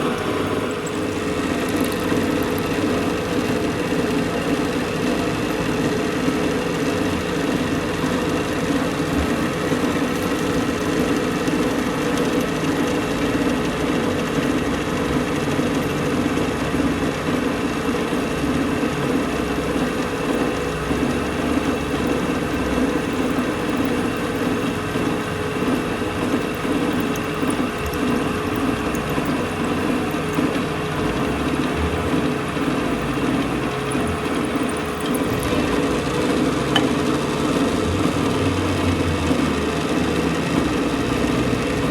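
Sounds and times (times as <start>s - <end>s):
machine humming: 0.0s - 41.9s.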